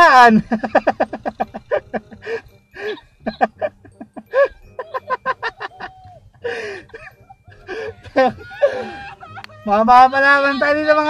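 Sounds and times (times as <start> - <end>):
person laughing: 0.3 - 11.0.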